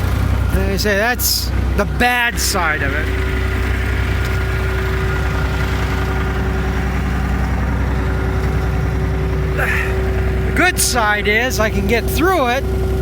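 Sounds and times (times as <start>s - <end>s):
constant hum: 0.0s - 13.0s
skid steer engine running: 0.0s - 13.0s.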